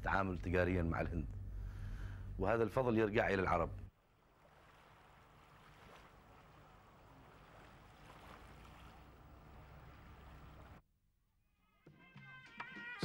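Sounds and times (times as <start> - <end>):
low hum: 0.0 - 10.8.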